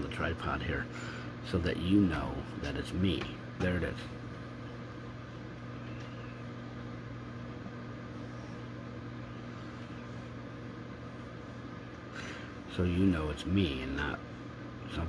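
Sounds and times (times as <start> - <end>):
electrical hum of motor: 0.0 - 15.0.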